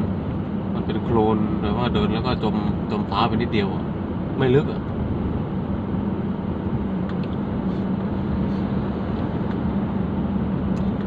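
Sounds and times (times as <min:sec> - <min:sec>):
car engine and tyre rumble: 0:00.0 - 0:11.0
constant low hum: 0:00.0 - 0:11.0.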